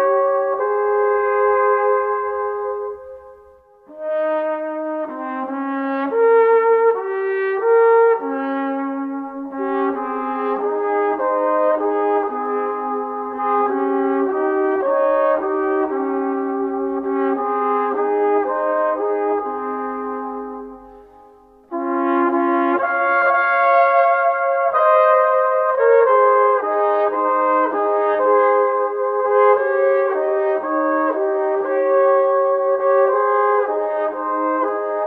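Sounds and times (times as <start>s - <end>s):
background brass music: 0.0s - 35.0s.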